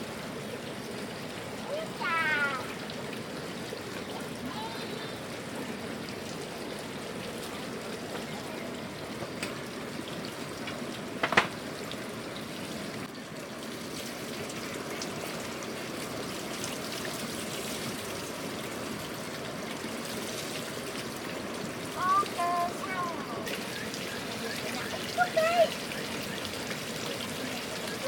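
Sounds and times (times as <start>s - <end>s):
trickling water: 0.0s - 28.0s.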